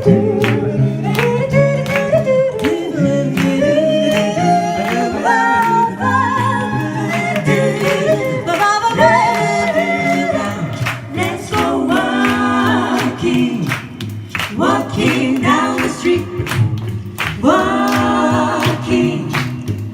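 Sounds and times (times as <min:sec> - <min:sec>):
a cappella group singing: 0:00.0 - 0:19.9
sung bass line: 0:00.0 - 0:19.9.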